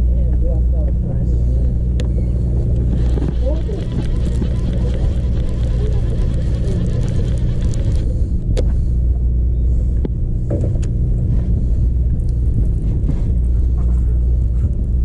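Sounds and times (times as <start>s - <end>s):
boat engine rumbling: 0.8s - 15.0s.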